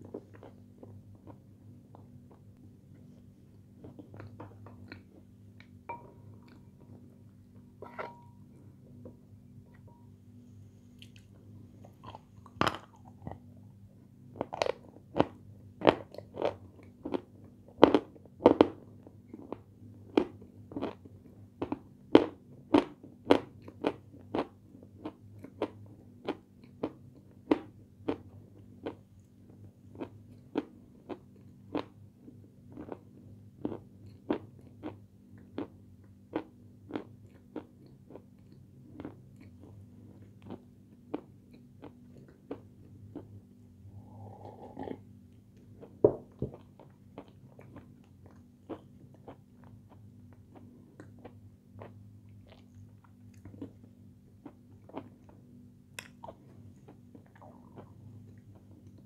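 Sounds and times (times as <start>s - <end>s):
crunchy sweets being chewed: 0.0s - 5.8s, 11.0s - 59.0s.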